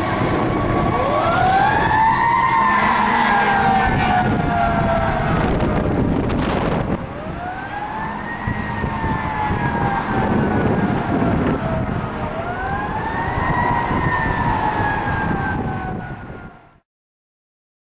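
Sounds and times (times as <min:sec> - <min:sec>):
mechanical siren wailing: 0:00.0 - 0:16.8
traffic and engine rumble: 0:00.0 - 0:16.8.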